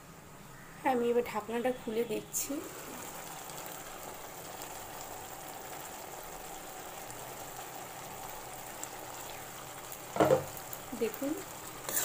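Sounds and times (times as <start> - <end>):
gravy bubbling and sizzling: 0.0 - 12.0.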